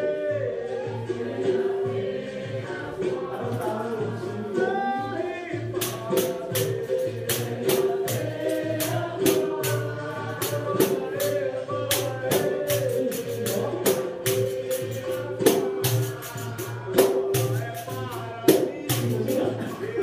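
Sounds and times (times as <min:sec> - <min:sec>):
person singing: 0:00.0 - 0:20.0.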